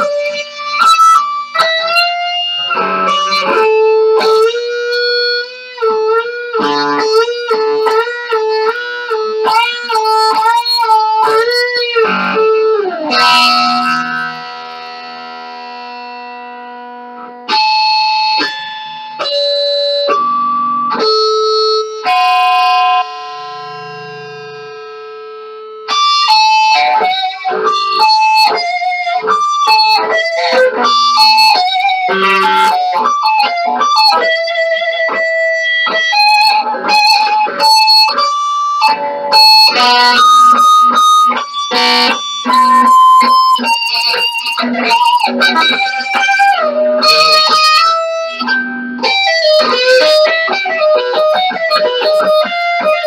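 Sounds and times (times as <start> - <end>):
electric guitar playing solo: 0.0 - 53.0.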